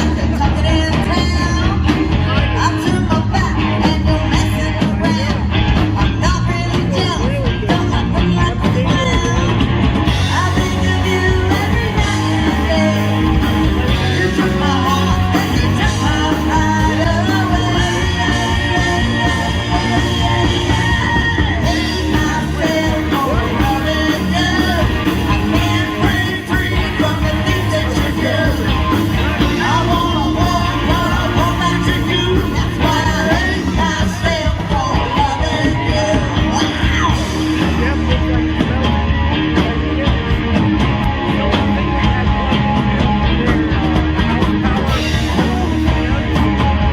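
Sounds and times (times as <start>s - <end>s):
live band playing: 0.0s - 46.9s
person singing: 0.0s - 46.9s.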